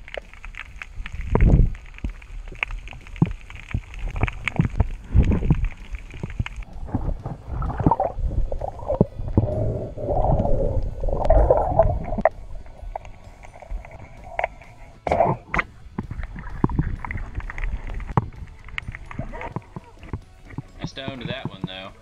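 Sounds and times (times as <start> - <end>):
sharp underwater clicks: 0.0 - 22.0
dull low underwater thumps: 2.9 - 22.0.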